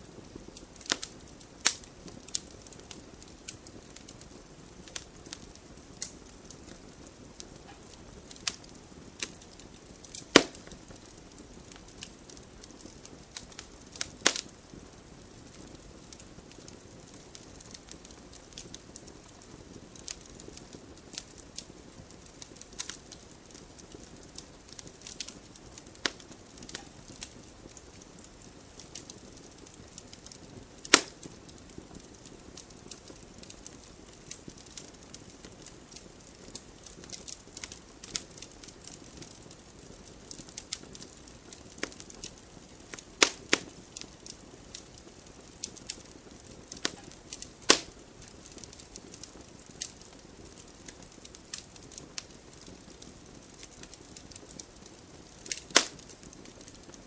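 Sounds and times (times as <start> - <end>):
fire crackling: 0.0 - 57.0
fire hissing: 0.0 - 57.0
loud fire pops: 0.1 - 57.0.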